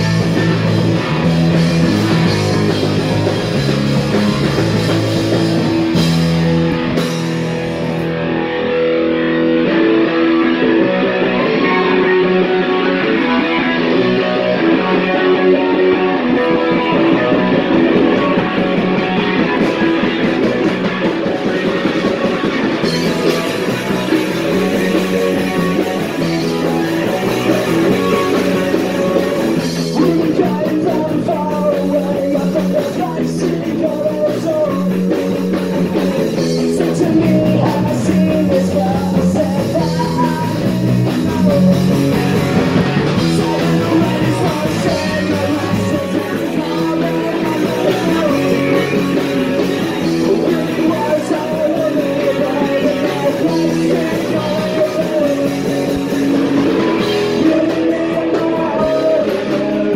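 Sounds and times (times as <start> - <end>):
punk rock band playing live: 0.0 - 59.9.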